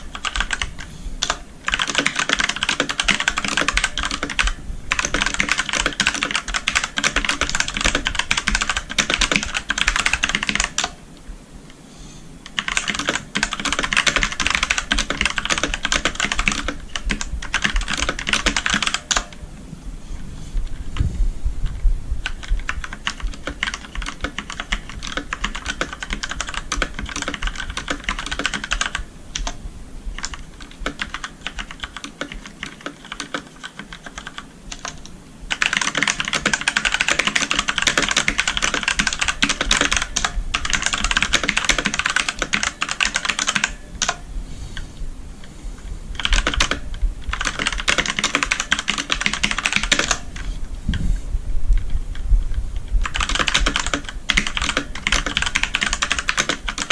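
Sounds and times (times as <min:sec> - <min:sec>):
mechanical keyboard typing: 0:00.0 - 0:11.0, 0:12.4 - 0:19.4, 0:22.2 - 0:29.6, 0:30.2 - 0:44.3, 0:46.2 - 0:50.5, 0:52.8 - 0:56.9.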